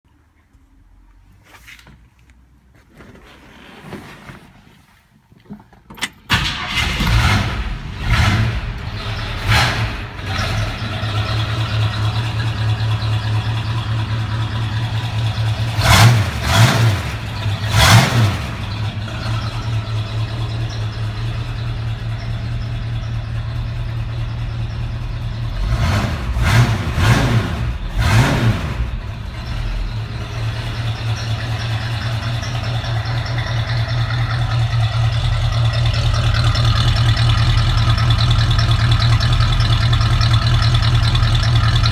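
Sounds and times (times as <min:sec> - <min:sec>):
car engine starting: 0:05.5 - 0:41.9
car engine idling and revving: 0:06.3 - 0:41.9.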